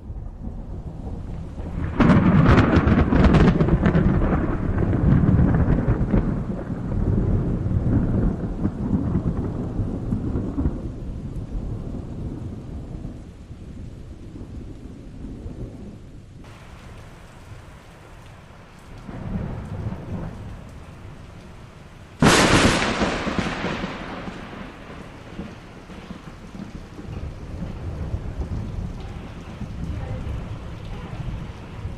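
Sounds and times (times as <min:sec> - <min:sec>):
loud close thunderclap: 0:00.0 - 0:17.6, 0:18.4 - 0:31.9
rain hissing: 0:00.0 - 0:31.9
thunder rumble: 0:00.0 - 0:31.9.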